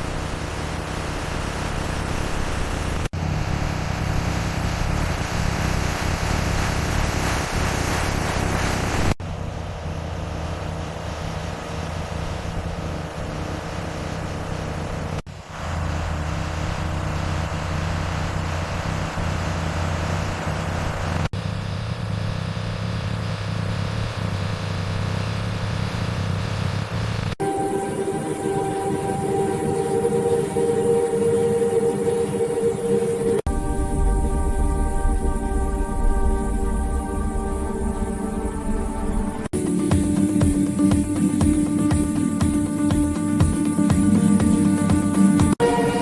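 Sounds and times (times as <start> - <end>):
heavy vehicle engine rumbling: 0.0 - 46.0.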